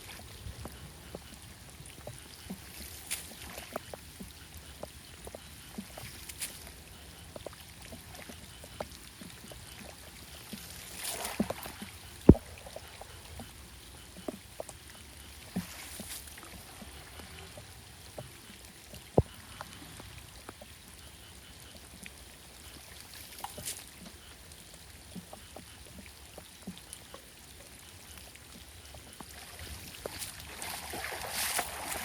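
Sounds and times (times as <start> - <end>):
water splashing and trickling: 0.0 - 32.0.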